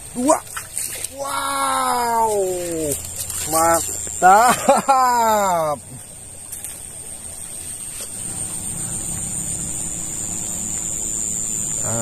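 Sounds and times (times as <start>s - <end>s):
high-pitched whine: 1.2s - 12.0s
distant engine running: 2.2s - 12.0s.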